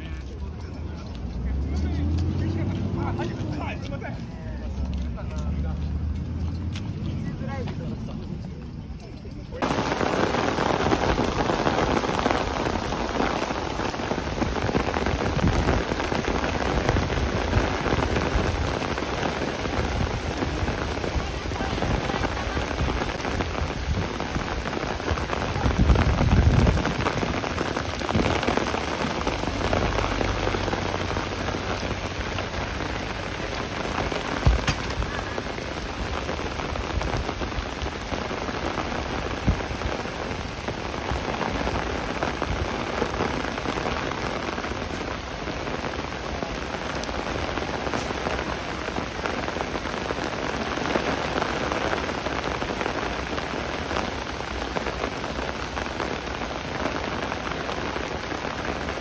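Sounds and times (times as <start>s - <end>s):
rain falling on pavement: 0.0s - 59.0s.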